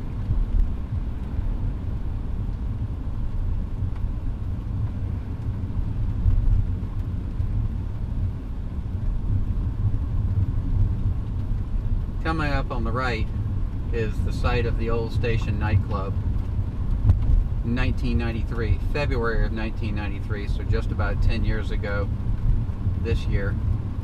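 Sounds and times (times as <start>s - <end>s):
car cabin road noise: 0.0s - 24.0s.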